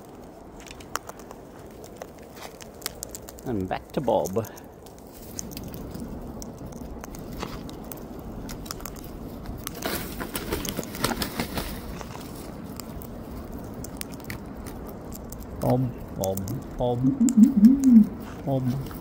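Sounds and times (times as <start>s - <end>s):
bird beak cracking seeds: 0.6s - 18.1s.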